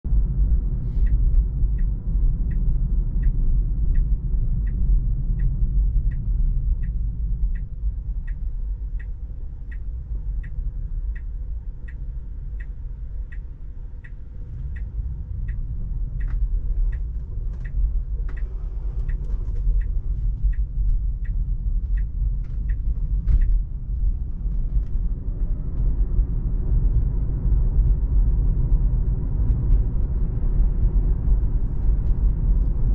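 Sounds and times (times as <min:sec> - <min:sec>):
road and tyre rumble in car cabin: 0:00.0 - 0:32.9
turn signal ticking: 0:00.1 - 0:32.9.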